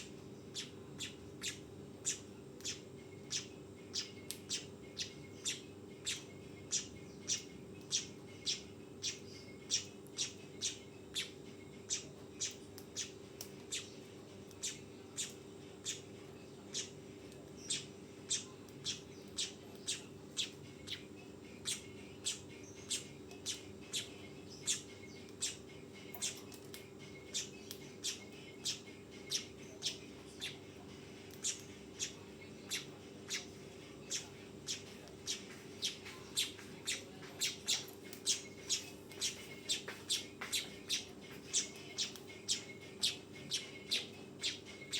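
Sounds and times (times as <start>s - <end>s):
weaver bird calling: 0.0s - 14.0s, 14.6s - 16.1s, 17.6s - 26.5s, 27.2s - 30.6s, 31.3s - 44.9s
faint low hum: 0.0s - 44.9s.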